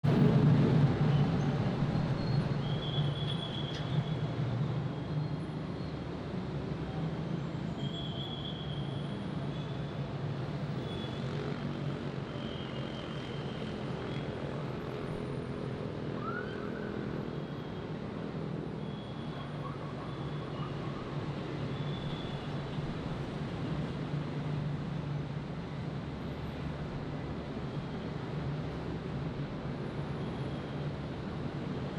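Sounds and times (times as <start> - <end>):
street traffic rumble: 0.0 - 31.9.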